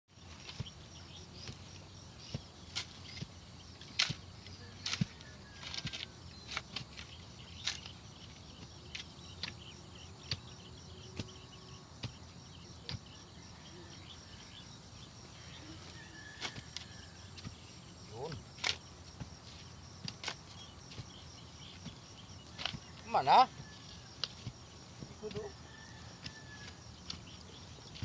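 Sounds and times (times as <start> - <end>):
insect chirring: 0.1 - 28.0
shovel digging soil: 0.2 - 13.4, 15.5 - 28.0.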